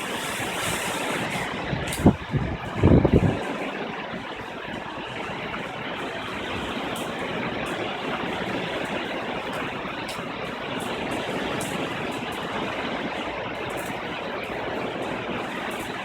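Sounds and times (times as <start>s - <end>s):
hurricane wind and rain: 0.0s - 16.0s.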